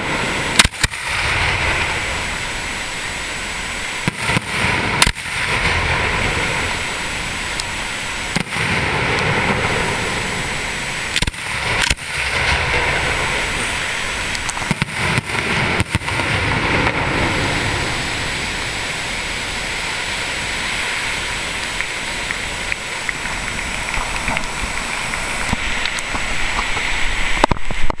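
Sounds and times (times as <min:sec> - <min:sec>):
firework shells bursting: 0:00.0 - 0:28.0.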